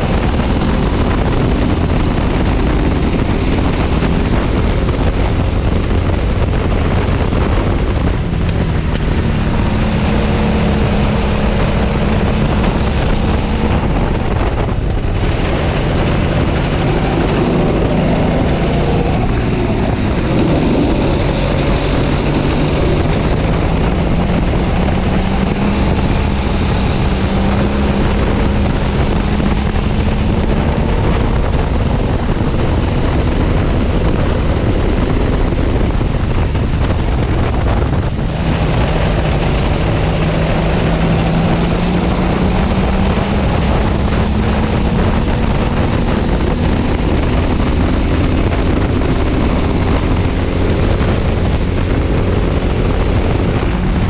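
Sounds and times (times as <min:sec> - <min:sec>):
go-kart engine racing: 0:00.0 - 0:54.0
wind noise on microphone: 0:00.0 - 0:54.0.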